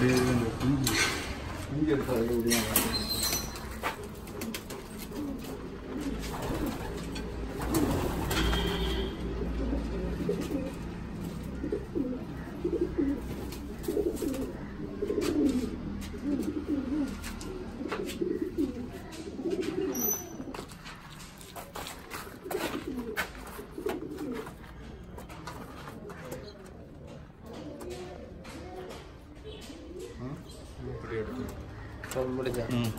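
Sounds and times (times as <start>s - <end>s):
pigeons cooing: 0.0s - 32.9s.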